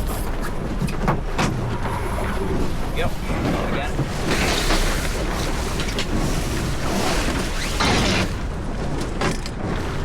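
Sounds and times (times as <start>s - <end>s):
wind buffeting microphone: 0.0s - 10.0s
water rushing: 0.7s - 10.0s.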